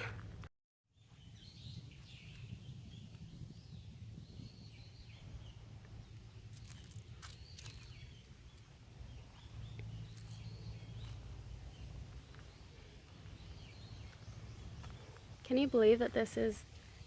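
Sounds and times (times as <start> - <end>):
wind rumble on microphone: 0.0 - 17.0
birds calling and chirping: 1.0 - 17.0.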